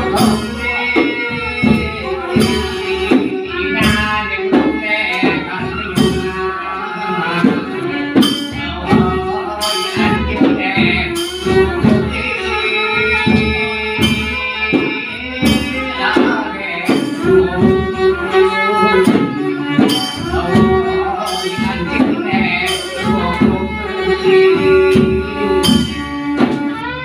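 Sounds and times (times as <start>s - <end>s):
percussion steady beat: 0.0s - 27.0s
person singing: 0.0s - 27.0s.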